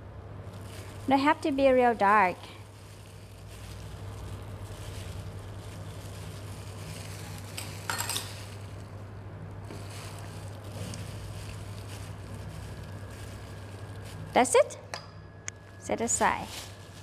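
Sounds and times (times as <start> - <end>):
low background hum: 0.0 - 17.0
noodles squishing: 0.4 - 14.7, 16.0 - 17.0
plastic glove crinkling: 0.4 - 14.8, 15.6 - 17.0.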